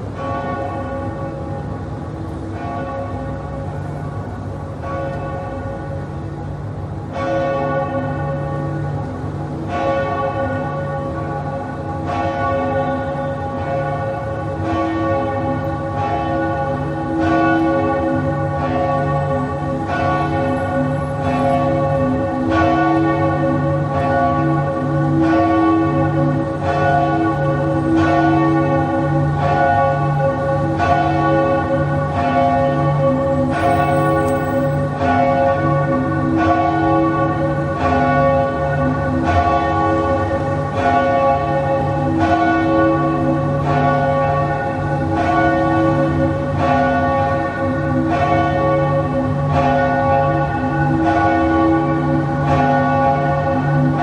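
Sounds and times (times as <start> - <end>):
church bells tolling: 0.0 - 54.0.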